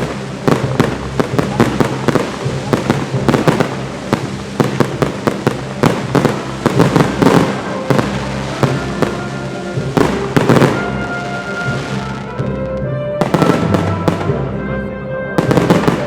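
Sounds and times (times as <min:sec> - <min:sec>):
fireworks bangs: 0:00.0 - 0:14.6, 0:15.3 - 0:16.0.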